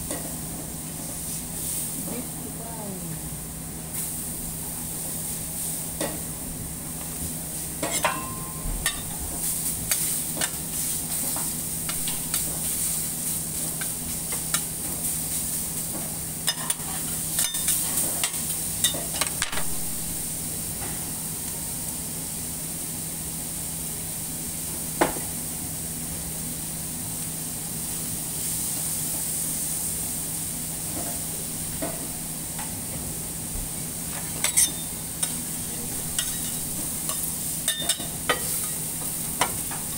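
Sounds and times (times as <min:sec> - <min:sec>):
beef sizzling on a griddle: 0:00.0 - 0:02.6, 0:03.7 - 0:39.9.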